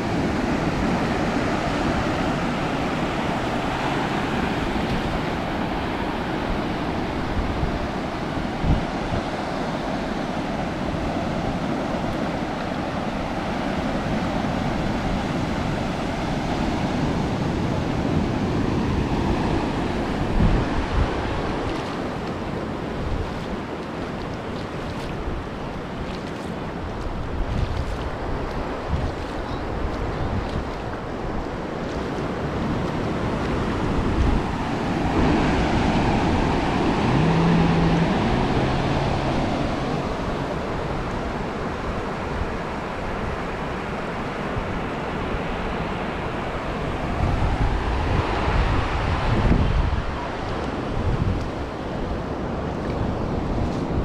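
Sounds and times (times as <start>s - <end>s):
ocean surf on sandy beach: 0.0s - 54.0s
wind buffeting microphone: 0.0s - 54.0s.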